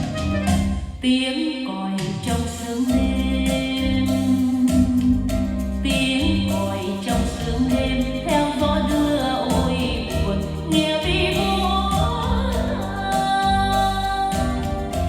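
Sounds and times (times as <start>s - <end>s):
band accompaniment: 0.0s - 1.1s, 2.3s - 15.0s
woman singing ballad: 1.0s - 15.0s.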